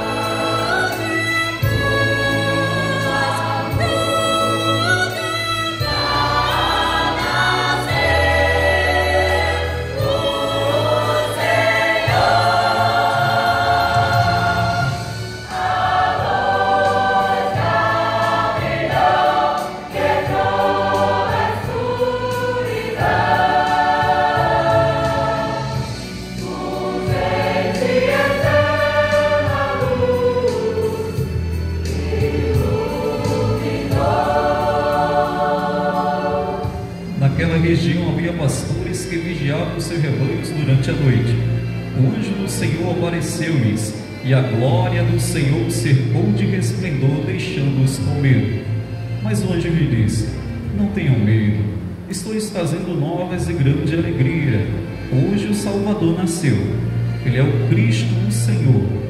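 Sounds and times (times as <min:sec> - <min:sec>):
church choir singing: 0:00.0 - 0:48.7
instrumental accompaniment with bass: 0:00.0 - 0:59.0.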